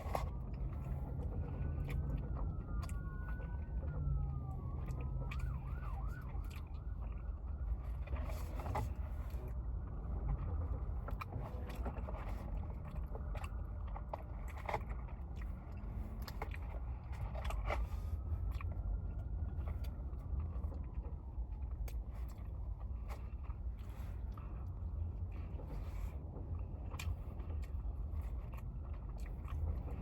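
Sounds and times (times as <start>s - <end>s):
emergency vehicle siren: 0.0s - 30.0s
steady low rumble: 0.0s - 30.0s.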